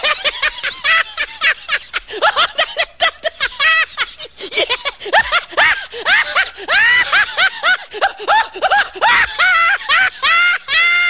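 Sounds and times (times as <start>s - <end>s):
person laughing hard: 0.0s - 11.0s.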